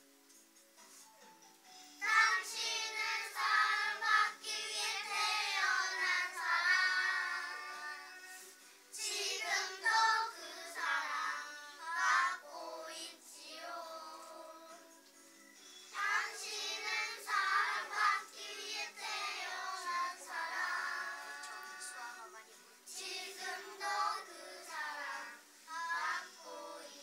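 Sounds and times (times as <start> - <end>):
children singing in unison: 2.0 - 14.8, 15.9 - 22.2, 22.9 - 27.0.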